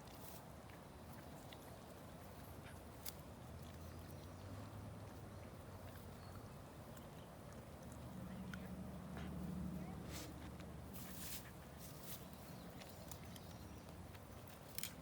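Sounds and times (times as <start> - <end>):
dog chewing grass: 0.0 - 15.0.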